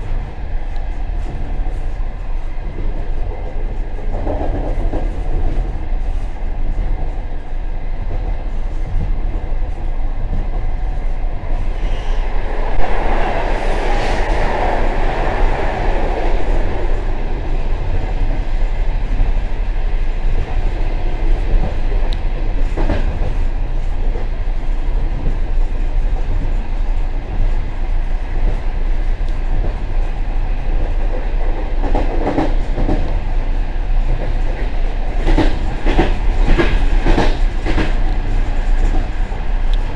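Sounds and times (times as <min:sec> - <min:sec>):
train wheels rumbling and rattling: 0:00.0 - 0:39.9.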